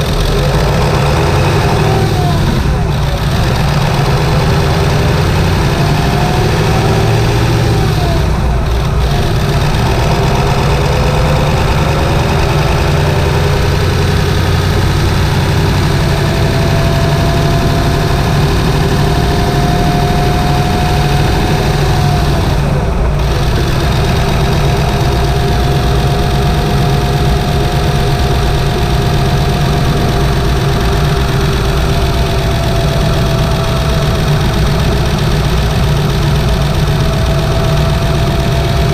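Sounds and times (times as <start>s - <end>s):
diesel engine running: 0.0s - 38.9s
whining tone: 0.0s - 38.9s.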